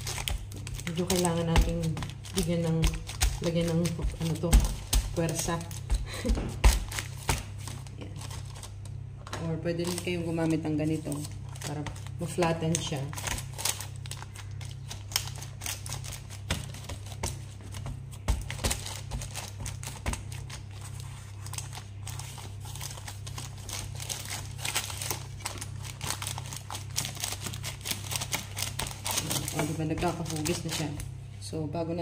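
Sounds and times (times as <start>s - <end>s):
baking paper crinkling: 0.0s - 31.1s.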